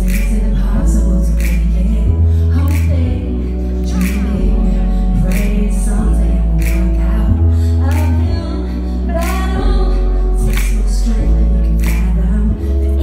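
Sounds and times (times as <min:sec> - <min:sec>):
deep bass notes: 0:00.0 - 0:13.0
live band playing pop song: 0:00.0 - 0:13.0.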